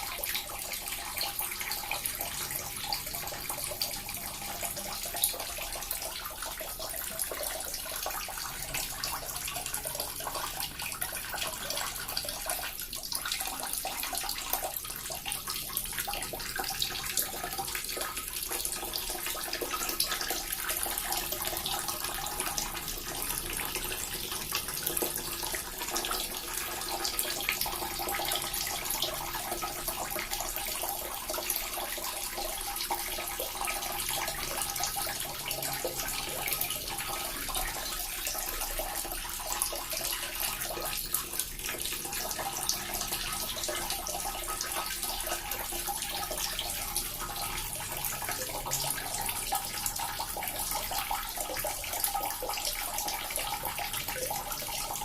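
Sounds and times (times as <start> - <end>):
water fountain splashing: 0.0 - 55.0.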